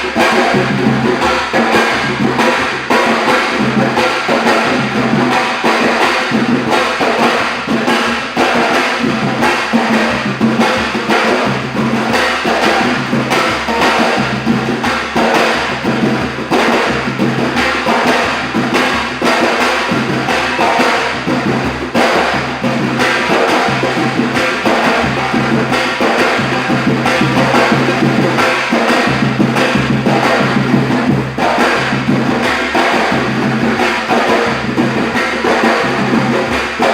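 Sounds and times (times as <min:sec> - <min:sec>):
hand drums playing fast rhythm: 0:00.0 - 0:36.9.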